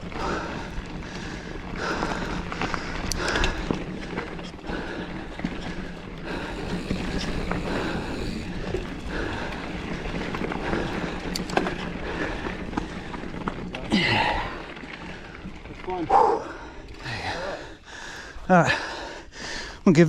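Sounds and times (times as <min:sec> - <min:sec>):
bike clicks and rattles: 0:00.0 - 0:19.7
bike tyres rolling over dirt: 0:00.0 - 0:20.0.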